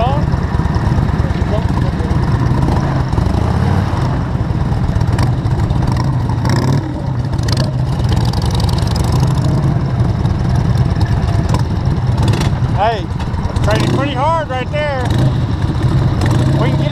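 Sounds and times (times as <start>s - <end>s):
vehicle engine running: 0.0s - 16.9s.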